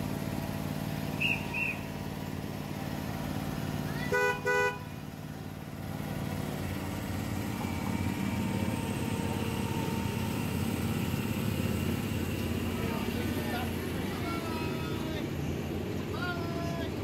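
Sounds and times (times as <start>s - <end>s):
train low mechanical rumble: 0.0s - 17.0s.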